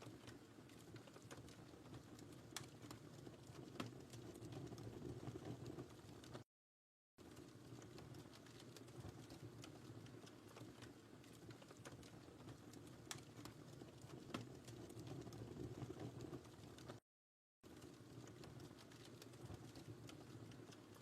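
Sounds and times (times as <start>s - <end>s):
fireplace fire crackling: 0.0s - 6.4s, 7.2s - 17.0s, 17.6s - 21.0s.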